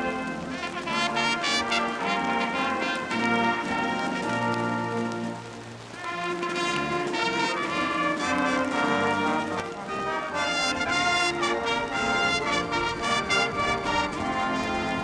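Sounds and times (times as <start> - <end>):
military band playing: 0.0 - 15.0.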